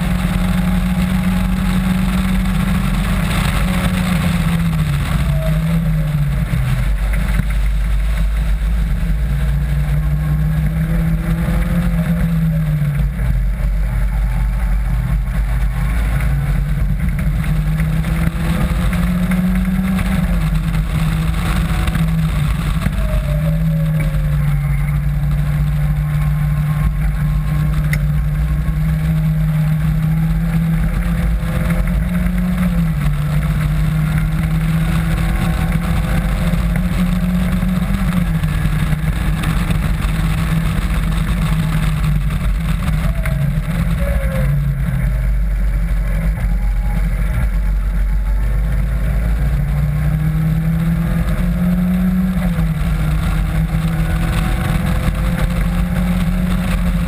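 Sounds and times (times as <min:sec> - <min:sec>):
low wind rumble: 0:00.0 - 0:57.0
sports car engine revving: 0:00.0 - 0:57.0.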